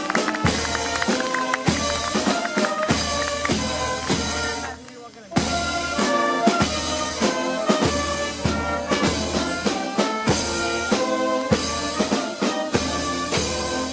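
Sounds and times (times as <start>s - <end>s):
band playing slow march: 0.0s - 13.9s.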